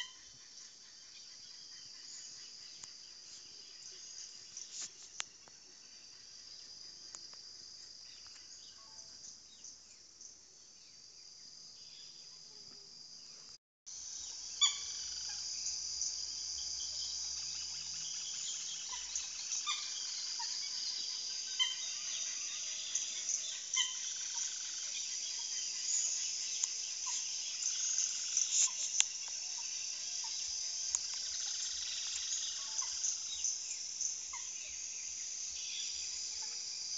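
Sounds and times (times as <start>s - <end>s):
high-pitched insect chorus: 0.0s - 36.9s.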